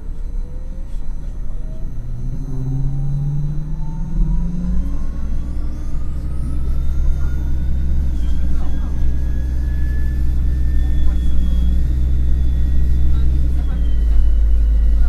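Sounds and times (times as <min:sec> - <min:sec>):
bus engine rumble: 0:00.0 - 0:15.0
electric drive whine: 0:00.0 - 0:15.0.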